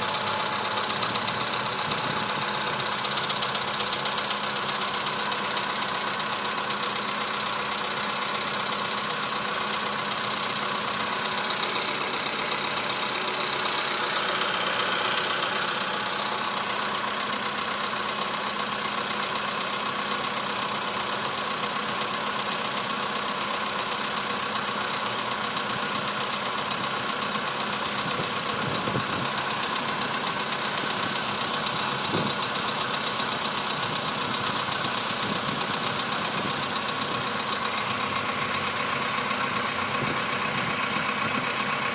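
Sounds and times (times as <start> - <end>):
engine idling with rapid knocking: 0.0 - 41.9.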